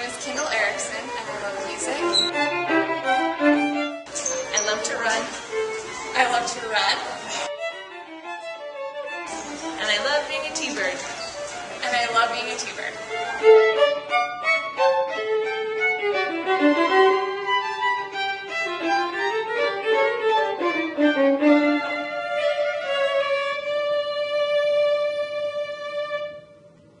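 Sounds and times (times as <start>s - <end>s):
violin melody: 0.0s - 27.0s.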